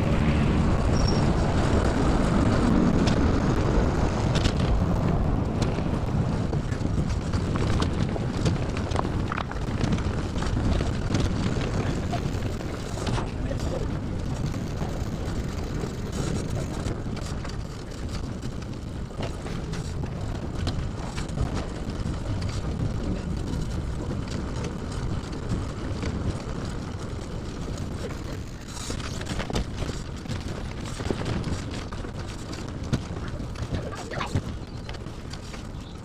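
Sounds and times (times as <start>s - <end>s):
trailer clicks and rattles: 0.0s - 36.0s
trailer rolling over pavement: 0.0s - 36.0s
wind buffeting microphone: 0.0s - 36.0s.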